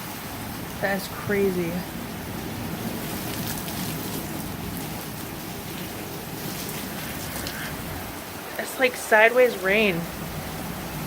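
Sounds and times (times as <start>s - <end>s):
heavy rain pouring: 0.0s - 11.0s
strong wind: 0.0s - 11.0s.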